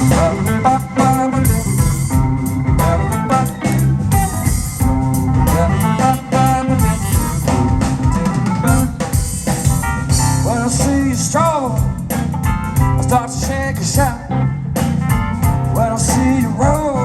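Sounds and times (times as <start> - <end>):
blues band playing: 0.0 - 17.0
drum kit: 0.0 - 17.0
electric guitar: 0.0 - 17.0.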